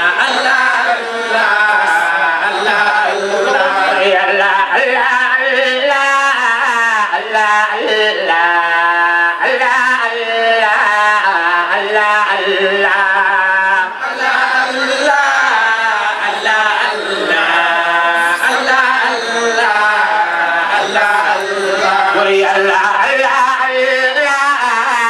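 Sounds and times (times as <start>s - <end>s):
voices chanting a devotional song: 0.0s - 25.0s.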